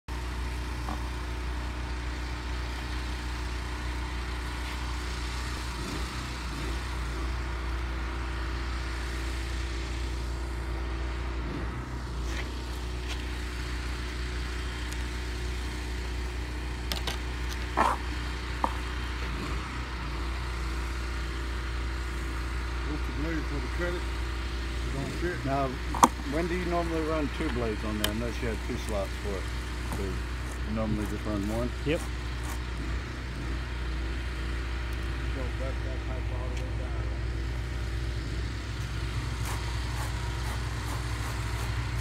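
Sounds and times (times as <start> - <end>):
low engine drone: 0.1 - 42.0.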